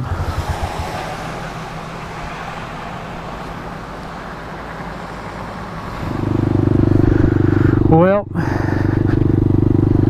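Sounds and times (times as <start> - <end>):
motorcycle engine running: 0.0 - 10.0
road and wind noise: 0.0 - 10.0.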